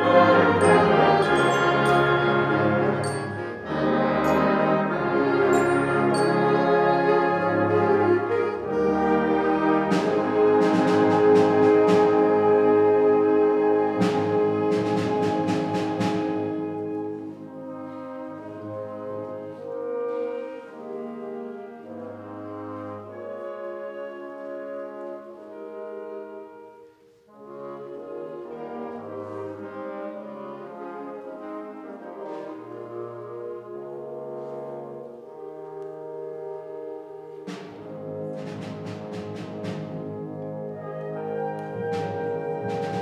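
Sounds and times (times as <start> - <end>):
brass: 0.0 - 43.0
wind band playing slow chords: 0.0 - 43.0.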